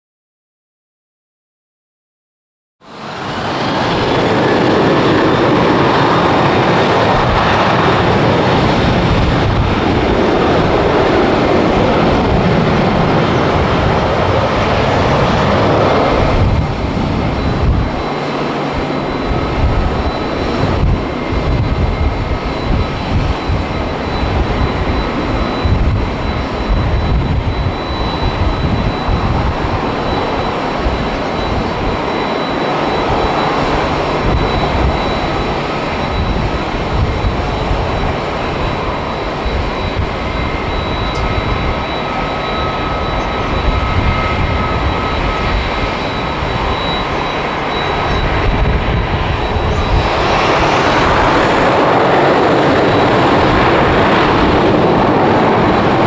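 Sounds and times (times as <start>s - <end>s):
jet engines running: 2.8s - 56.0s.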